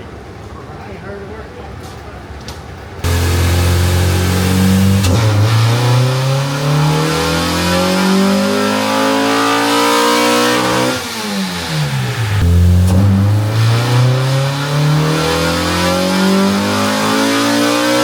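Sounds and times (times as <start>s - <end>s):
car engine revving under load: 3.0s - 18.0s.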